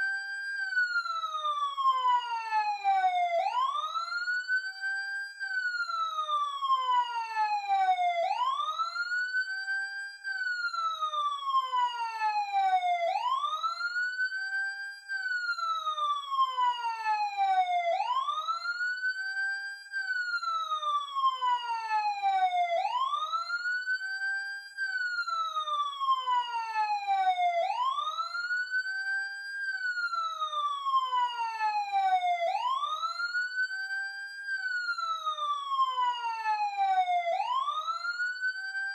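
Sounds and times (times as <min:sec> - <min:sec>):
emergency siren wailing: 0:00.0 - 0:38.9.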